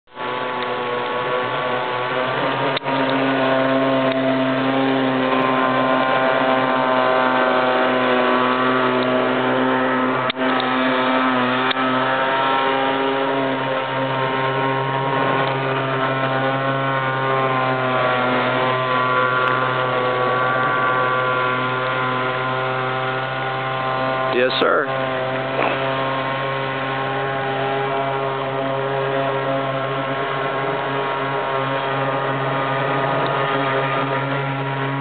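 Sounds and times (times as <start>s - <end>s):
two-stroke engine buzzing: 0.1s - 35.0s.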